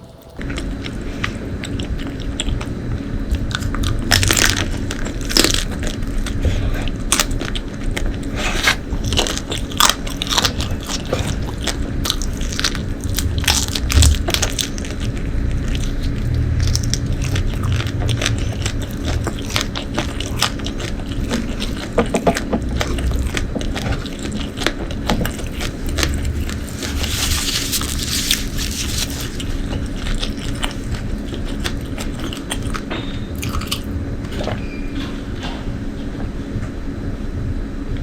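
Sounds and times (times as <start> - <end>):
wet chewing with crunches: 0.0 - 34.7.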